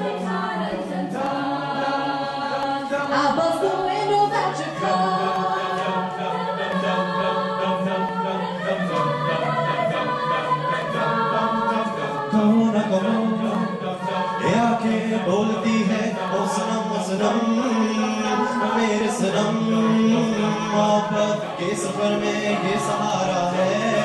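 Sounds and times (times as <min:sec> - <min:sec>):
a cappella group singing: 0:00.0 - 0:24.0.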